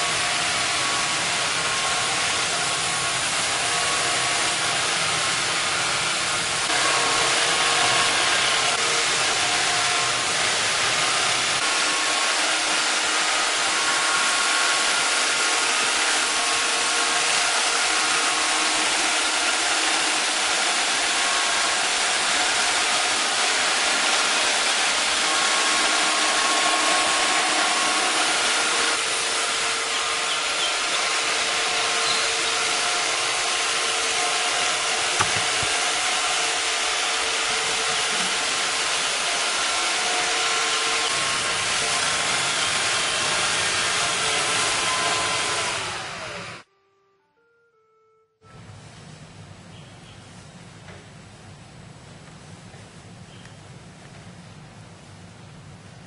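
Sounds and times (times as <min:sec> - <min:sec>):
vacuum cleaner running: 0:00.0 - 0:46.7.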